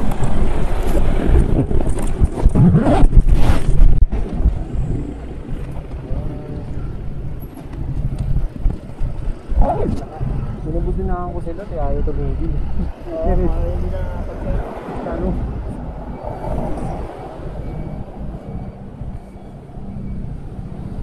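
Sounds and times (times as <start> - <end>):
motor vehicle rumble: 0.0 - 21.0
wind on microphone: 0.0 - 21.0.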